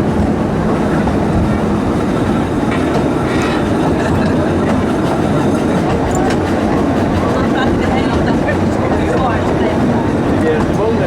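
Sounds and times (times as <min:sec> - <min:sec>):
steam train rumbling: 0:00.0 - 0:11.0
wheels clicking on rails: 0:00.0 - 0:11.0.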